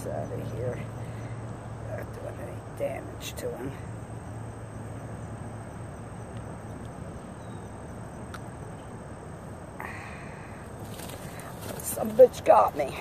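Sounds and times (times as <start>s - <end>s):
high insect drone: 0.0s - 13.0s
low hum and hiss: 0.0s - 13.0s.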